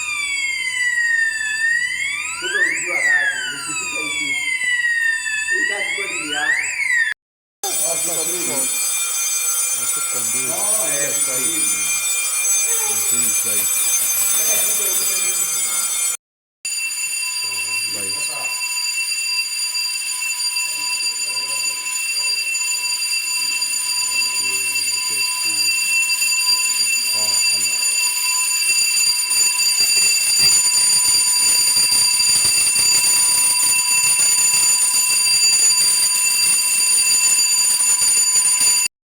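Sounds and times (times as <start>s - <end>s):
fire alarm high-pitched tone: 0.0s - 38.9s.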